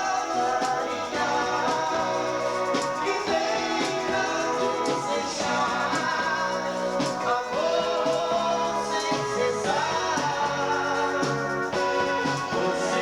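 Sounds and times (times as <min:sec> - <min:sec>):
band playing dance music: 0:00.0 - 0:13.0
drum beat: 0:00.0 - 0:13.0.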